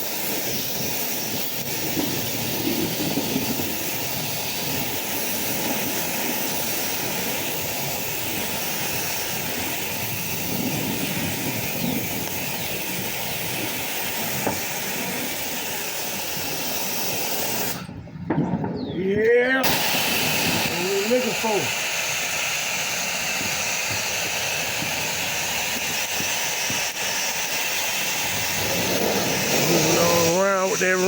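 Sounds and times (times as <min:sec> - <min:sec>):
pressure washer spraying: 0:00.0 - 0:17.9, 0:19.6 - 0:31.0.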